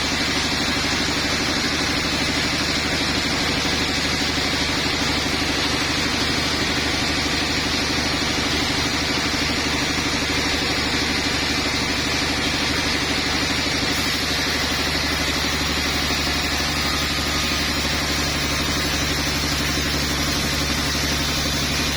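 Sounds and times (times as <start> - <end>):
sawmill machinery droning: 0.0 - 21.9.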